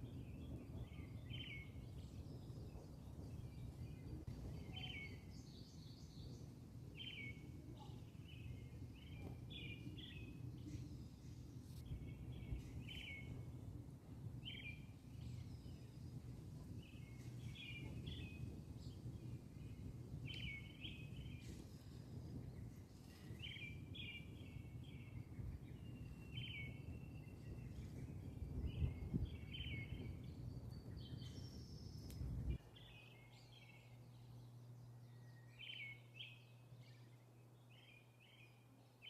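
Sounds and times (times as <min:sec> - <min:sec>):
faint steady low hum: 0:00.0 - 0:39.0
low rumbling background noise: 0:00.0 - 0:39.0
small birds chirping: 0:00.0 - 0:39.0.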